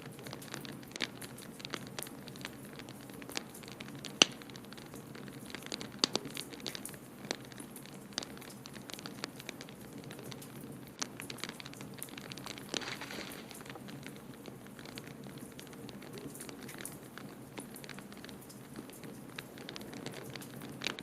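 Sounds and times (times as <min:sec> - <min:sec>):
wood fire crackling: 0:00.0 - 0:21.0
sharp pops of fire: 0:00.2 - 0:21.0.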